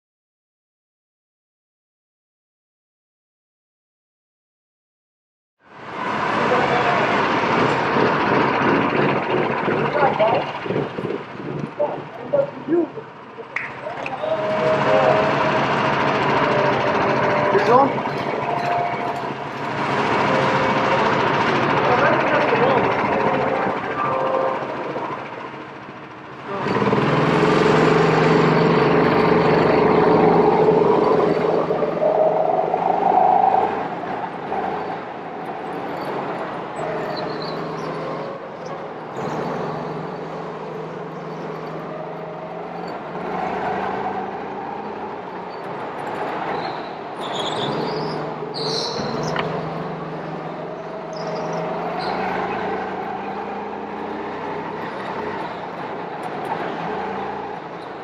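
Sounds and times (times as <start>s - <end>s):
go-kart engine running: 5.8s - 58.0s.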